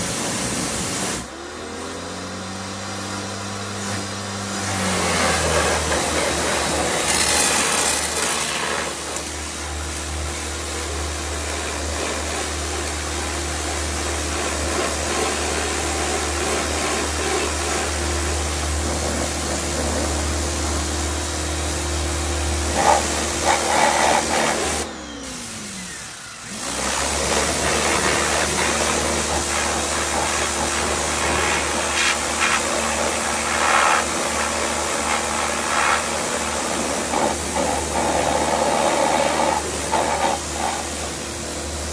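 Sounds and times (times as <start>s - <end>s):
water jet spraying: 0.0s - 1.3s, 3.7s - 41.9s
pressure washer motor humming: 0.0s - 41.9s.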